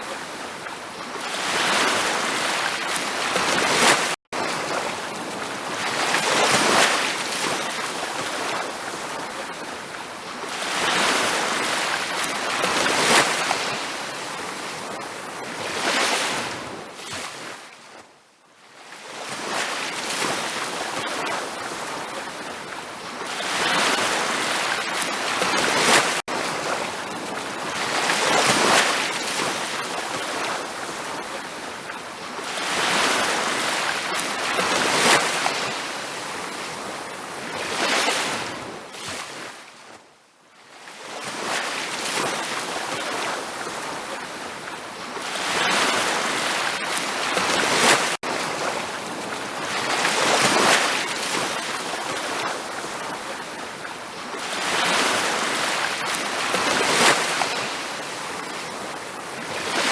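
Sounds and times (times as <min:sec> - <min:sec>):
ocean waves washing onto beach: 0:00.0 - 0:40.0, 0:40.7 - 0:59.9.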